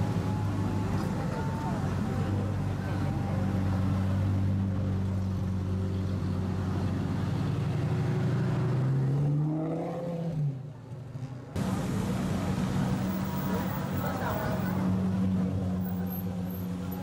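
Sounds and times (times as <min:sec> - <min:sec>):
car engines droning: 0:00.0 - 0:17.0.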